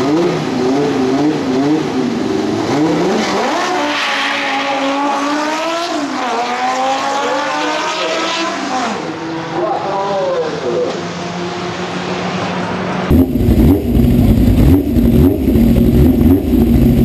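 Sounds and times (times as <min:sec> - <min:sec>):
drag car engine revving: 0:00.0 - 0:09.4, 0:10.4 - 0:17.0.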